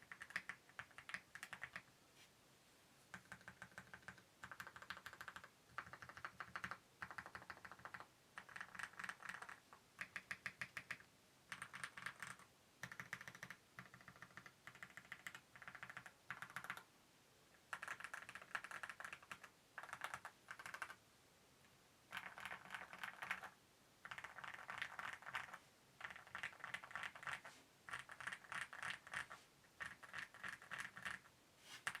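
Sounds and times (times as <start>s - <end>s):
mechanical keyboard typing: 0.0s - 1.9s, 3.1s - 16.9s, 17.7s - 21.0s, 22.1s - 32.0s.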